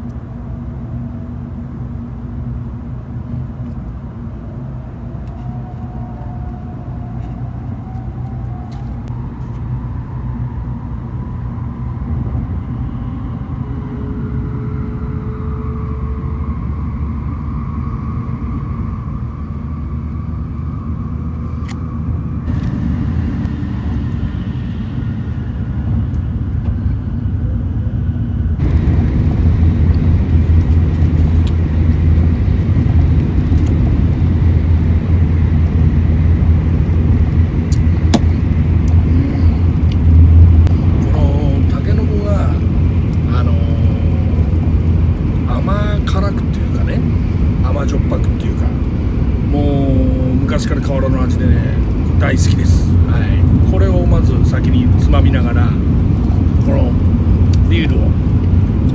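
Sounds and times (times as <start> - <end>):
faint whining tones: 0.0 - 58.9
train rumbling at speed: 0.0 - 58.9.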